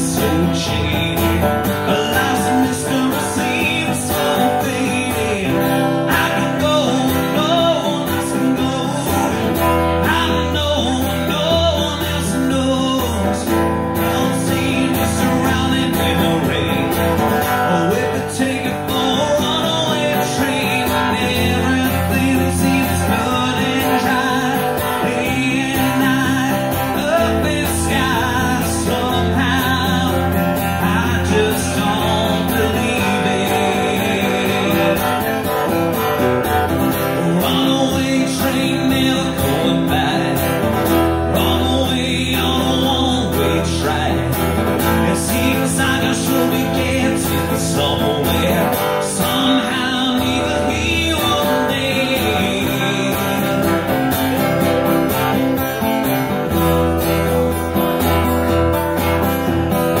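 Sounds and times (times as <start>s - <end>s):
person singing: 0.0s - 55.4s
acoustic guitar strumming: 0.0s - 60.0s.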